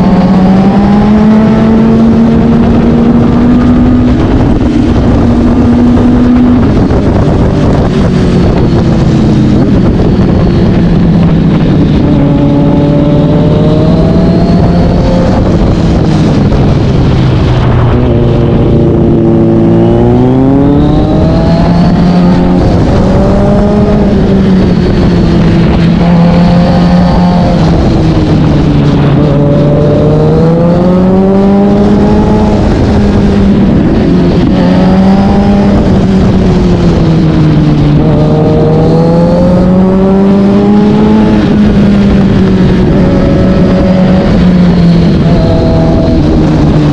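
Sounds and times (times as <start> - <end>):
motorcycle engine revving: 0.0 - 46.9
wind on microphone: 0.0 - 46.9.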